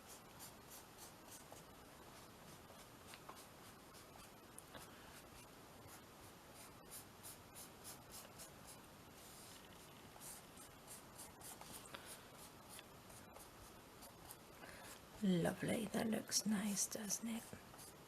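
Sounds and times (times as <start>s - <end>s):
paintbrush swishing on paper: 0.0s - 15.2s.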